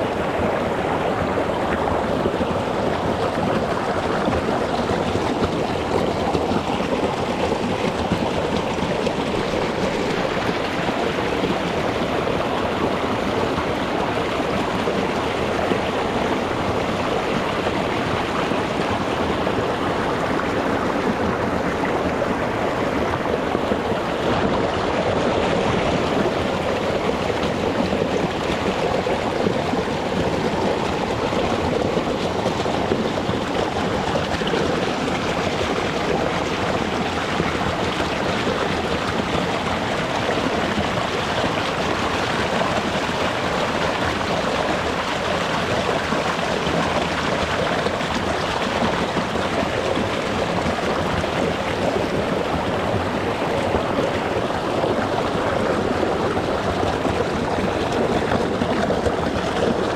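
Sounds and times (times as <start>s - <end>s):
stream burbling over stones: 0.0s - 59.9s.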